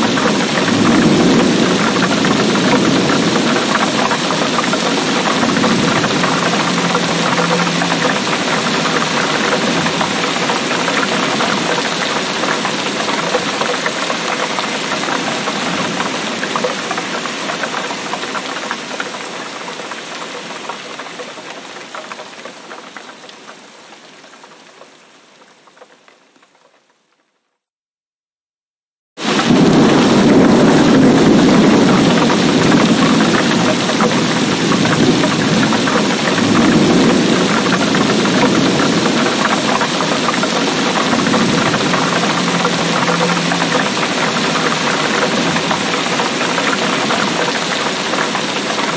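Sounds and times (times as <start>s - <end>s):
heavy rain pouring: 0.0s - 27.1s, 29.2s - 48.9s.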